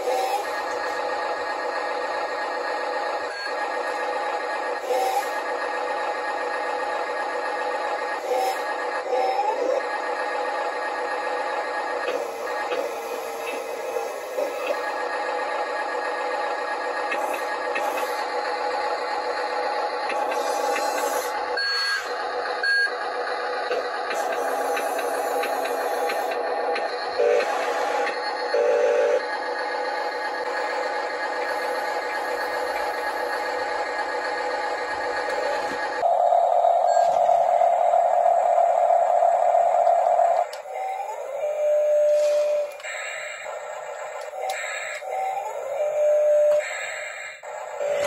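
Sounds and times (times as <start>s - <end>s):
electric gear motors whining: 0.0s - 48.0s.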